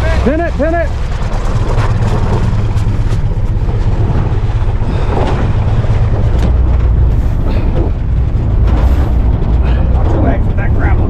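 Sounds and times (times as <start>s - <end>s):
car engine at full throttle: 0.0s - 11.0s
gravel clattering: 0.0s - 11.0s.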